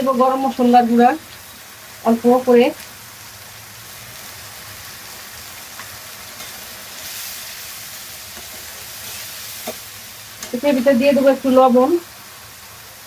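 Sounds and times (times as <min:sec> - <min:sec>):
spices sizzling in oil: 0:00.0 - 0:13.0.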